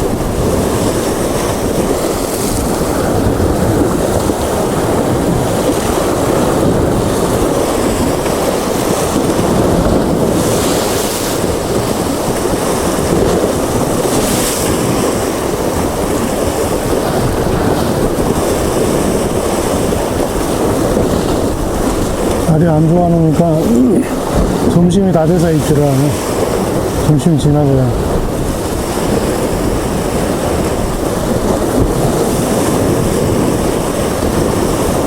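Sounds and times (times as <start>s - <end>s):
sea swell washing on rocks: 0.0s - 35.0s
wind buffeting microphone: 0.0s - 35.0s.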